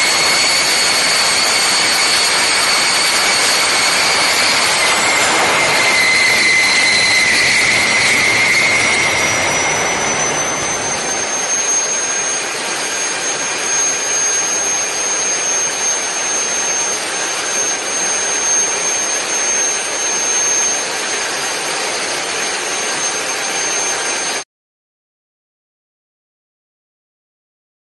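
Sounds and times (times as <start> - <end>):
high engine whine: 0.0 - 24.4
turbojet engine roaring: 0.0 - 24.4.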